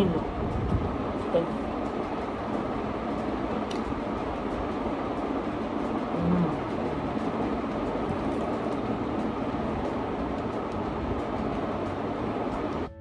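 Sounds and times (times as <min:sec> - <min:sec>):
steady low rumbling: 0:00.0 - 0:13.0.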